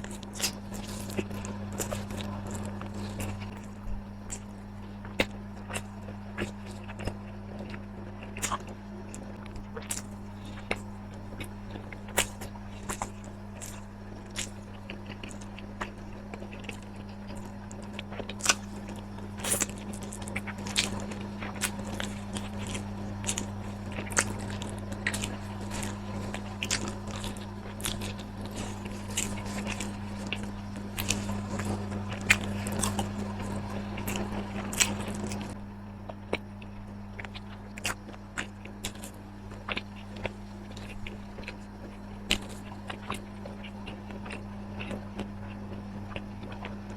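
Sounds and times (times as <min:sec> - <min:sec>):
person biting and chewing: 0:00.0 - 0:35.5, 0:36.3 - 0:46.8
steady low hum: 0:00.0 - 0:46.9.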